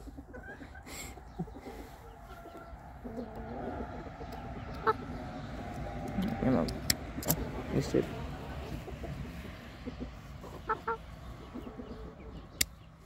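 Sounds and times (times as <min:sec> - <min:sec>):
chickens clucking softly: 0:00.0 - 0:13.0.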